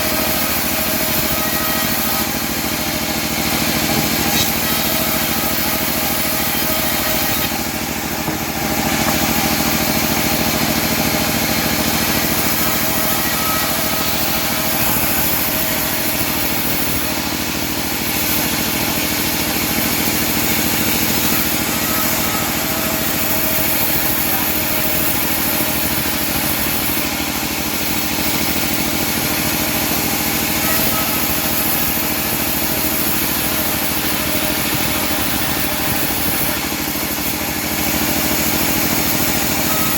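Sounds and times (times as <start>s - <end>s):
band blade sawing wood: 0.0s - 39.9s
small engine drone: 0.0s - 39.9s.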